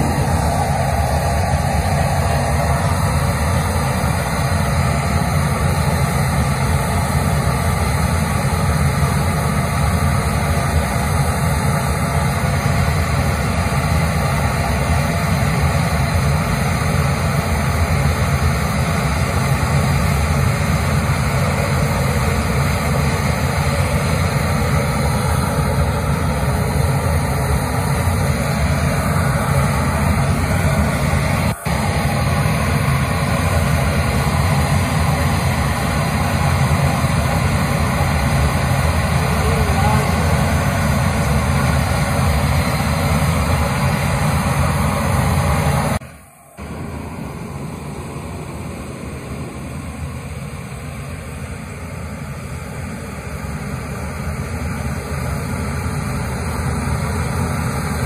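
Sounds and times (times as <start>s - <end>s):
engine drone with low rumble: 0.0s - 58.0s.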